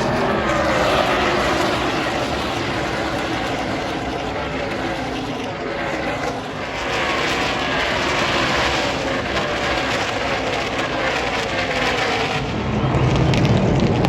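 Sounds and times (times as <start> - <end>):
truck engines passing at full throttle: 0.0 - 14.0.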